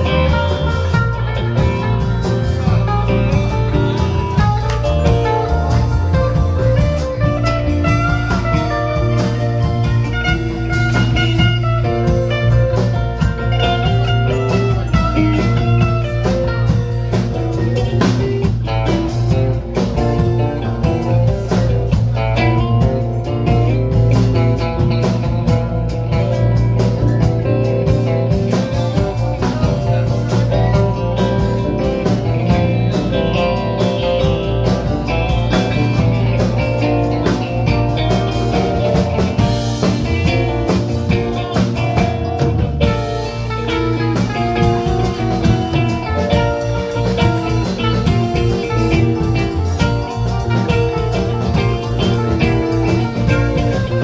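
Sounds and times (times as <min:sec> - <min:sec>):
drum kit: 0:00.0 - 0:54.0
electric bass: 0:00.0 - 0:54.0
electric guitars: 0:00.0 - 0:54.0
keyboard: 0:00.0 - 0:54.0.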